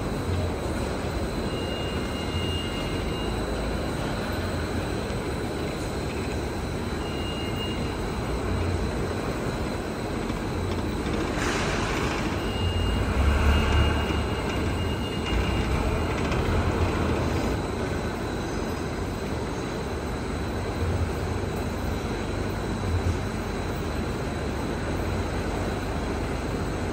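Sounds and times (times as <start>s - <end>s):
faint high whine: 0.0s - 23.8s
machine rumble: 0.0s - 26.9s.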